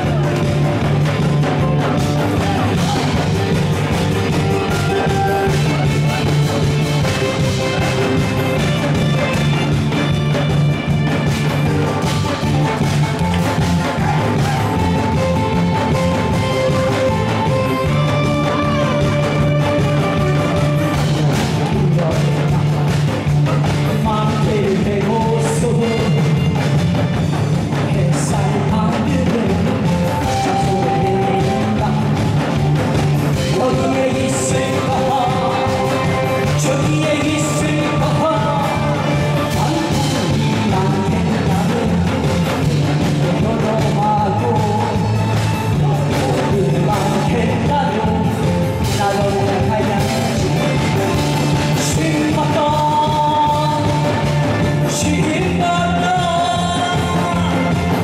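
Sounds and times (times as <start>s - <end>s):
loud music with drum beat: 0.0s - 58.0s
man singing: 0.0s - 58.0s.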